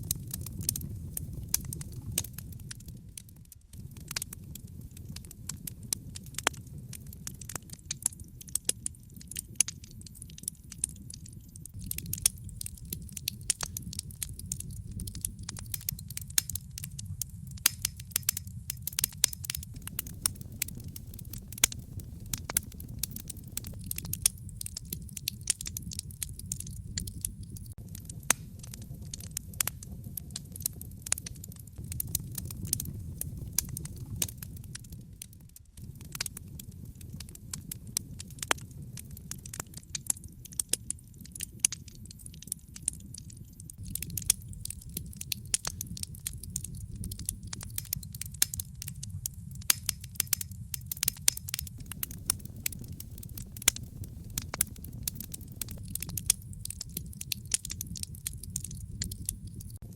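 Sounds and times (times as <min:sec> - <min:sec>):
fire crackling with sharp snaps: 0:00.0 - 0:59.9
low rumble of flames: 0:00.0 - 0:59.9.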